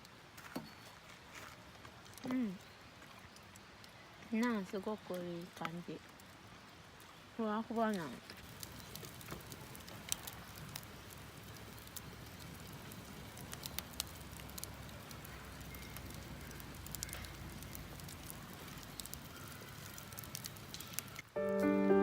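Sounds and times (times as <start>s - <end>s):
campfire crackling: 1.6s - 2.5s, 3.3s - 22.0s.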